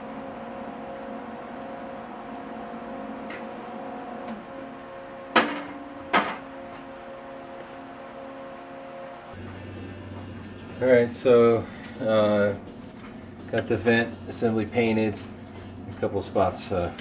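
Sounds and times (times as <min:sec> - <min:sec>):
steady motor hum: 0:00.0 - 0:17.0.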